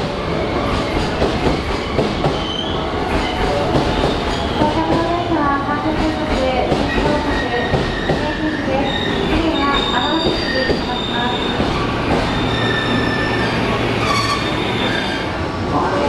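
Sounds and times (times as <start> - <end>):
train running rumble: 0.0 - 16.0
train wheels squealing on rails: 0.1 - 5.2, 6.8 - 15.4.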